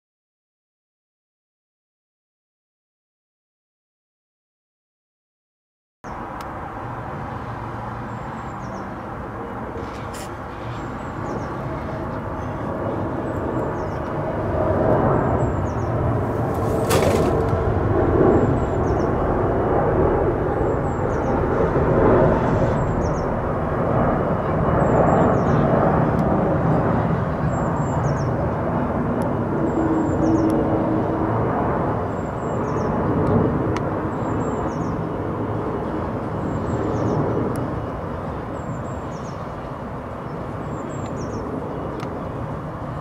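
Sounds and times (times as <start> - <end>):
airliner passing low overhead: 6.1 - 43.0
jet engine rumble: 6.1 - 43.0.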